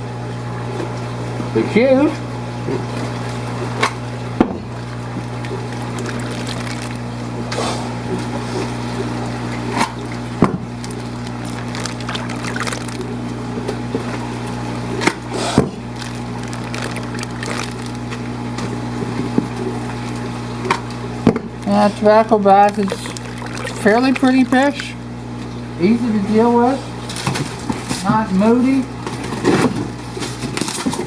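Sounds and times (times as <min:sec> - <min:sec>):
running water: 0:00.0 - 0:30.2
low hum of pumps: 0:00.0 - 0:31.0.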